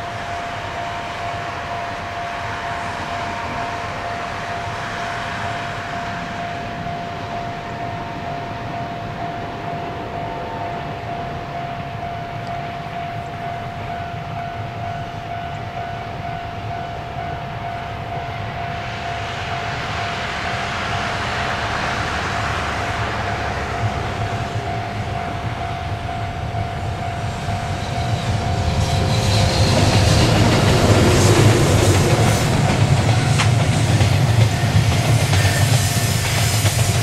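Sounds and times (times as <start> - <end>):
distant freight train rumbling: 0.0 - 37.0
thin steady whine: 0.0 - 37.0.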